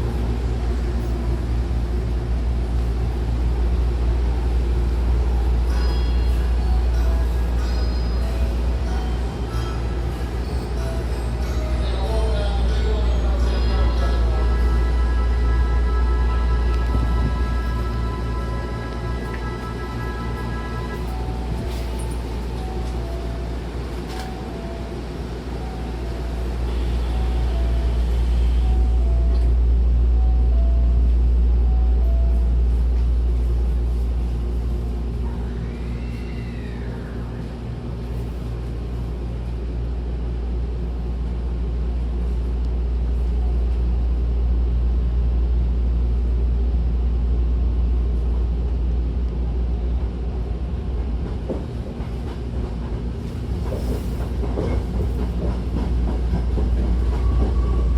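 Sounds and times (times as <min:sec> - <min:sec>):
train motors and wheels rumbling: 0:00.0 - 0:57.9.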